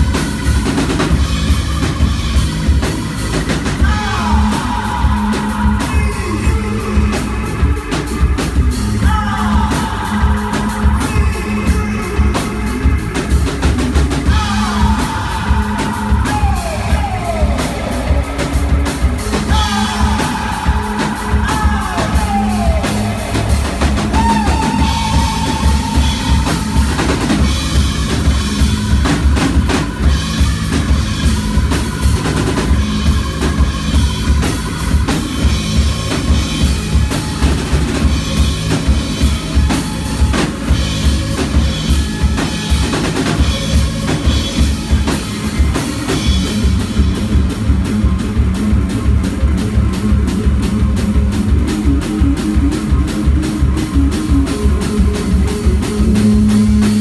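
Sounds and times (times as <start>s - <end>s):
electric bass guitars: 0.0s - 57.0s
pounding drum kit: 0.0s - 57.0s.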